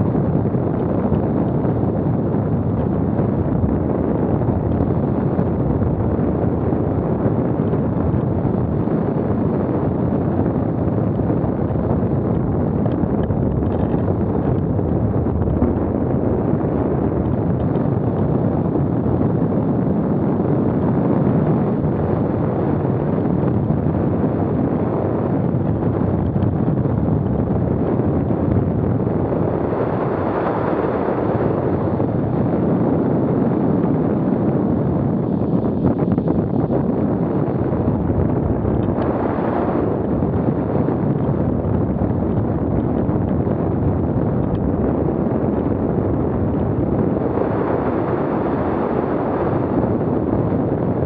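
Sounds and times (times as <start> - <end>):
strong wind buffeting microphone: 0.0 - 51.0.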